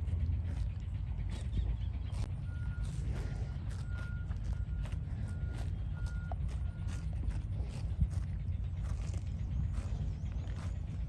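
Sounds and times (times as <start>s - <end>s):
hooves clopping: 0.0s - 11.0s
steady low rumble: 0.0s - 11.0s.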